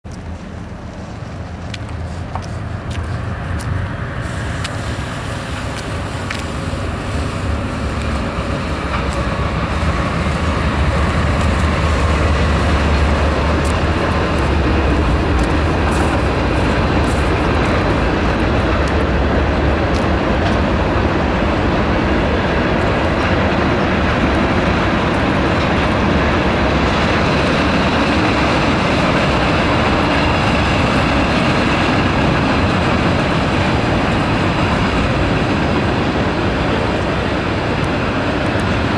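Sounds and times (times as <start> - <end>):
diesel locomotive engine drone: 0.0 - 38.9
train cars rumbling on rails: 0.0 - 38.9.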